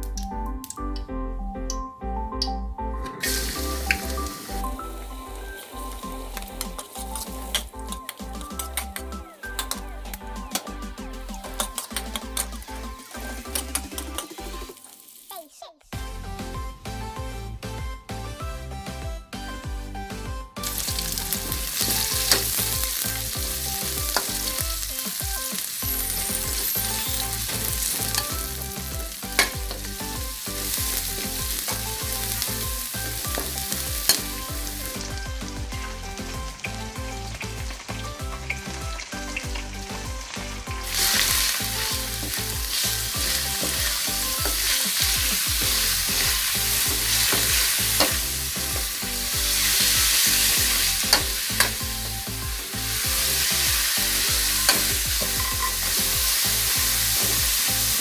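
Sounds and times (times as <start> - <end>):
food sizzling in hot oil: 3.1 - 9.8, 11.3 - 15.6, 20.6 - 58.0.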